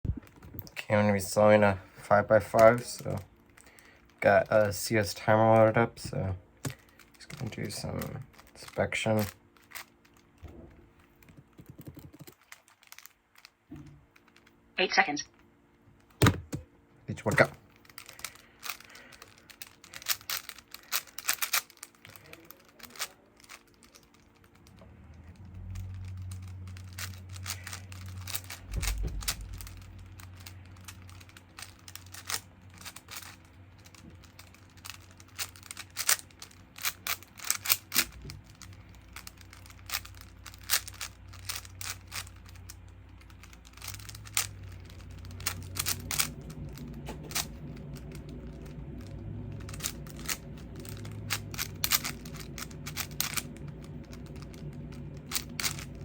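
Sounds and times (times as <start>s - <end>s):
low steady hum: 0.0s - 56.0s
puzzle cube plastic clicking: 5.5s - 10.4s, 11.0s - 14.6s, 17.3s - 56.0s.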